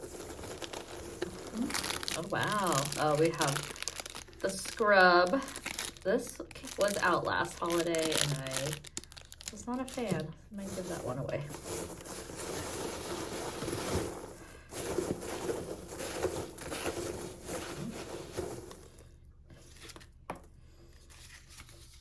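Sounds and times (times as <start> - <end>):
packing paper rustling and crinkling: 0.0 - 20.2, 21.0 - 22.0.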